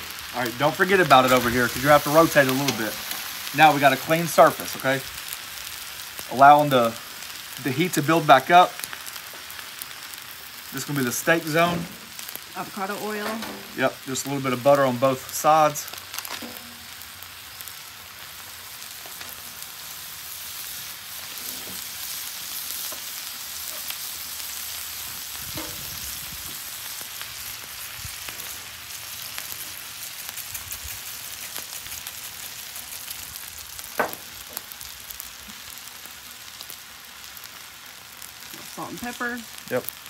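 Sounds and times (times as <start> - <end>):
butter sizzling on a griddle: 0.0 - 40.0.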